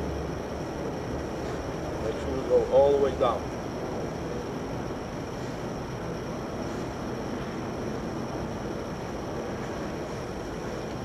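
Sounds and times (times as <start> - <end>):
hydraulic power unit running: 0.0 - 11.0.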